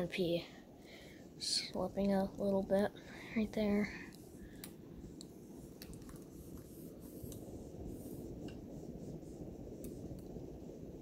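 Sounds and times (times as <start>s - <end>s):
ceiling fan running: 0.0s - 11.0s.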